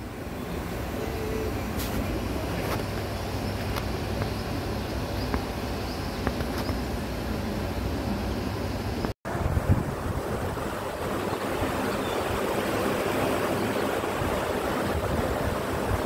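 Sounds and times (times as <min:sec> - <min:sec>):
low rumbling outdoor noise: 0:00.0 - 0:16.0.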